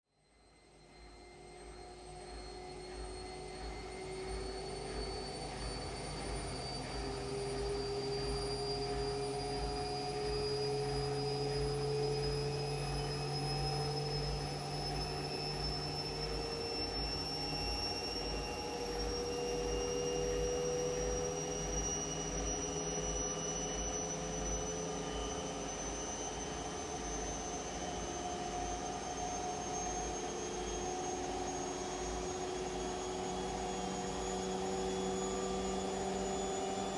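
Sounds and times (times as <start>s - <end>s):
washing machine motor whine: 0.5s - 36.9s.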